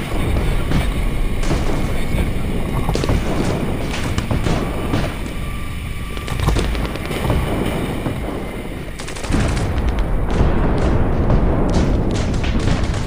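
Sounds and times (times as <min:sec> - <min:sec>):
airsoft guns firing bursts: 0:00.0 - 0:05.4, 0:06.2 - 0:13.0
low rumble: 0:00.0 - 0:13.0.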